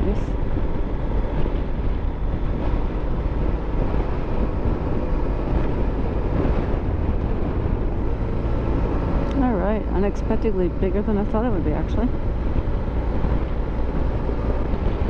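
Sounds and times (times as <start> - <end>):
motorcycle engine rumble: 0.0 - 15.0
wind on microphone: 0.0 - 15.0.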